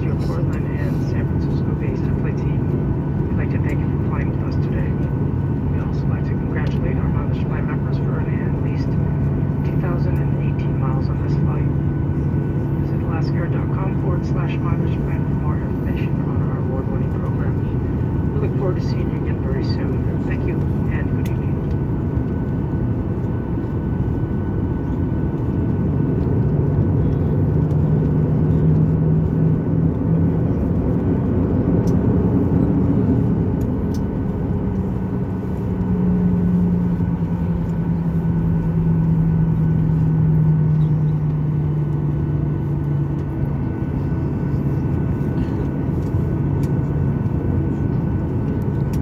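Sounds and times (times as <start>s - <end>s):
jet engines low rumble: 0.0s - 49.0s
low engine hum: 0.0s - 49.0s.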